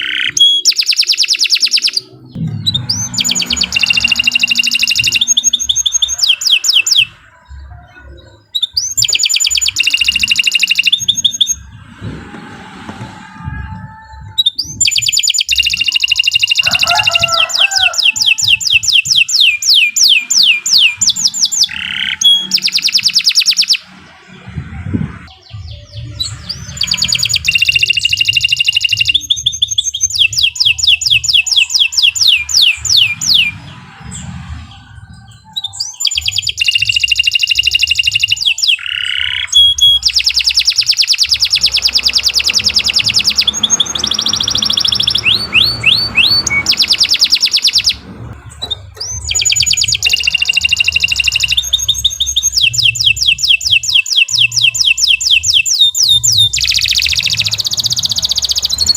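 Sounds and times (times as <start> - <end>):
canary singing trills: 0.0 - 12.0, 13.4 - 58.9.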